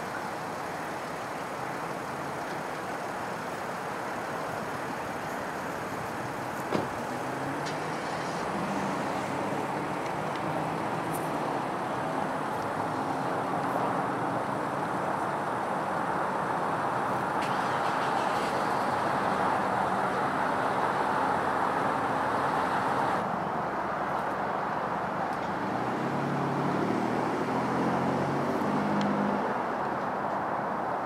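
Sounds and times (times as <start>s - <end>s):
distant road traffic hum: 0.0s - 31.0s.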